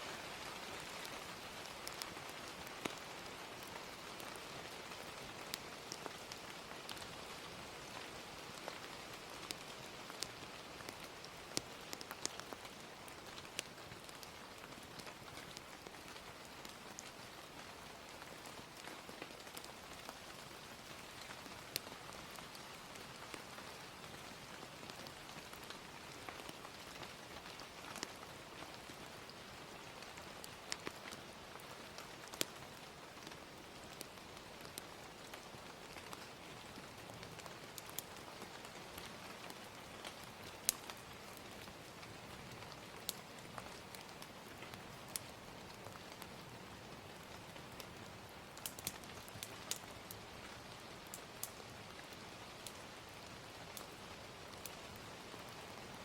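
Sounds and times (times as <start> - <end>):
gentle rain: 0.0 - 56.0
wood fire crackling: 0.0 - 56.0.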